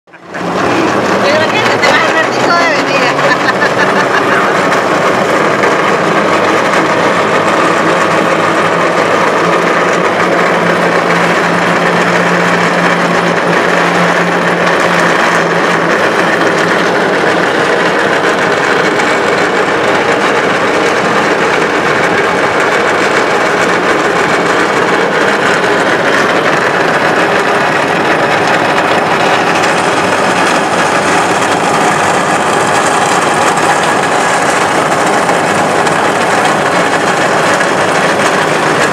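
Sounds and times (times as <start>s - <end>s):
low hum: 0.1s - 38.9s
trolley wheels whirring on cable: 0.1s - 38.9s.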